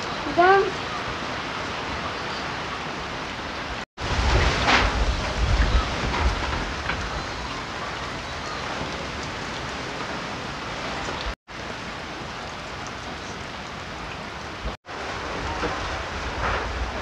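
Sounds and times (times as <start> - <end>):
heavy rain hiss: 0.0 - 17.0
wind rumbling on microphone: 0.0 - 17.0.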